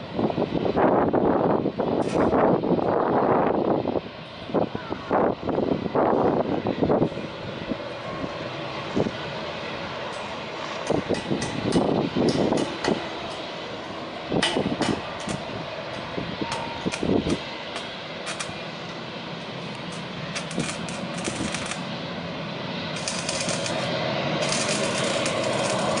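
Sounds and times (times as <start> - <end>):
jet engine roar with crackles: 0.0 - 26.0.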